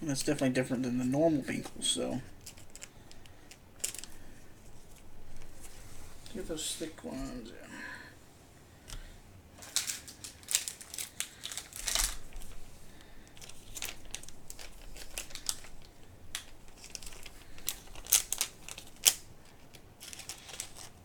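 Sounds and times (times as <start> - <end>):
plastic crinkling and rustling: 1.1 - 7.4, 9.6 - 21.0.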